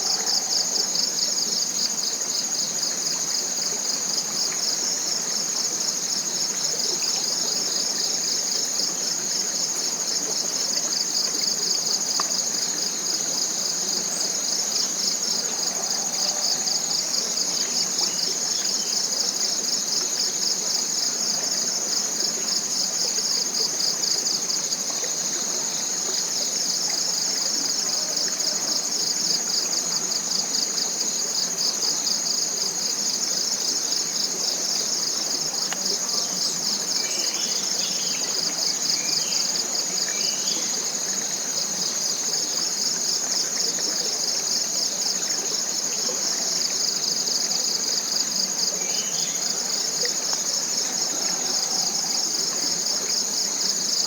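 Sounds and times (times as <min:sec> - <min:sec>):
insects buzzing and trilling: 0:00.0 - 0:54.0
small stream rushing: 0:00.0 - 0:54.0.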